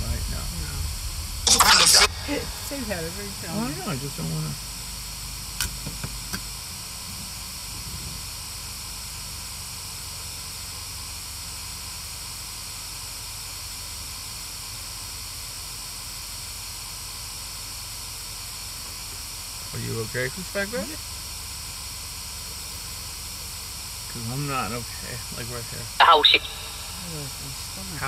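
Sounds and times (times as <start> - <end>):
white noise hiss: 0.0 - 28.0.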